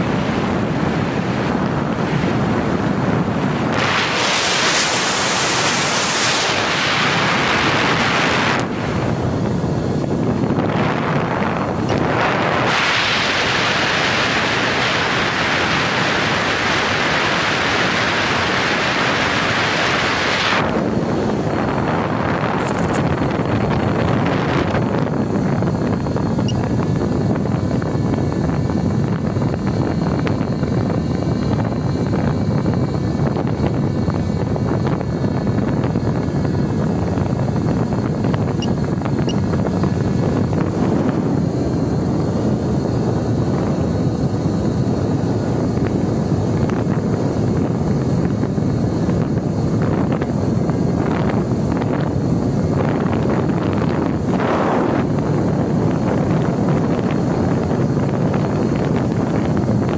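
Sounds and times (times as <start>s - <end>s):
faint high whine: 0.0s - 59.9s
wind rushing over microphone: 0.0s - 59.9s.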